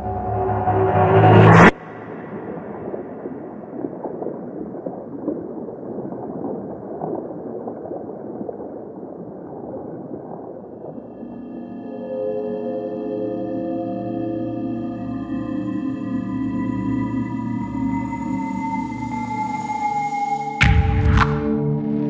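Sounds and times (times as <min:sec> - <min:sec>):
muffled water gurgling: 0:01.5 - 0:22.0.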